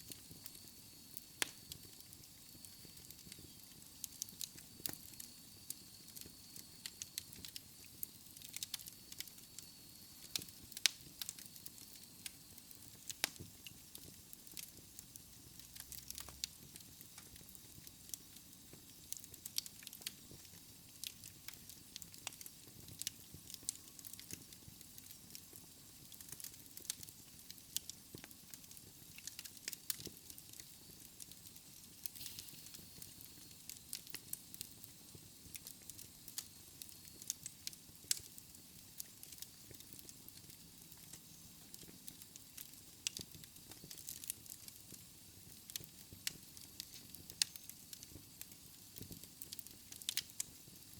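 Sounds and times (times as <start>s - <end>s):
faint steady hiss: 0.0s - 50.9s
wood fire crackling: 0.0s - 50.9s.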